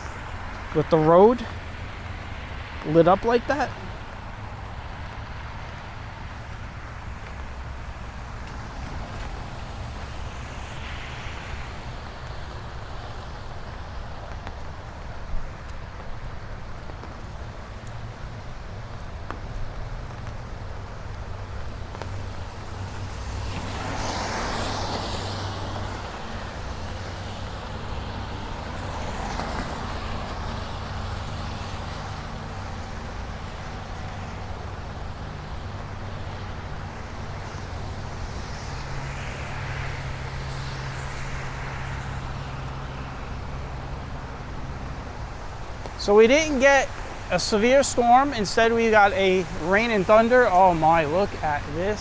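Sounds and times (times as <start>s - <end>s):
traffic low rumble: 0.0s - 52.0s
vehicle tyre hiss passing: 0.0s - 52.0s.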